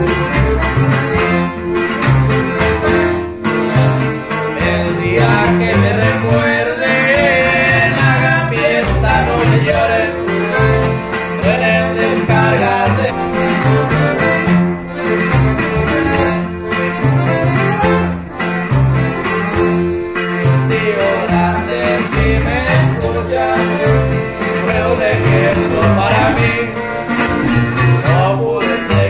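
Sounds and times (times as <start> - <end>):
accordion: 0.0 - 29.0
guitar: 0.0 - 29.0
plucked upright bass: 0.0 - 29.0.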